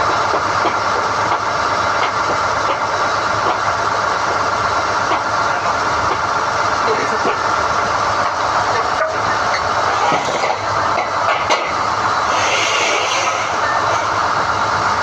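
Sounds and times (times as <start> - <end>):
drilling rig running: 0.0 - 15.0.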